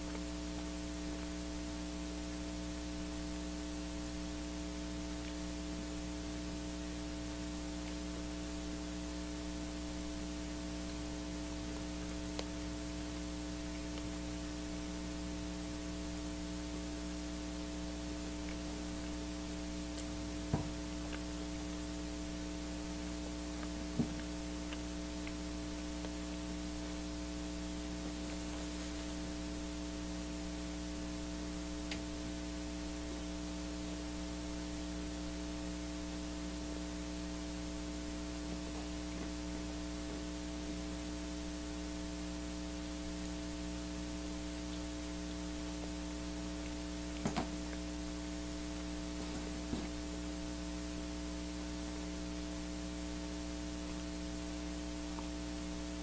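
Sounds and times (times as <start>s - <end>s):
electrical mains hum: 0.0s - 56.0s
static hiss: 0.0s - 56.0s.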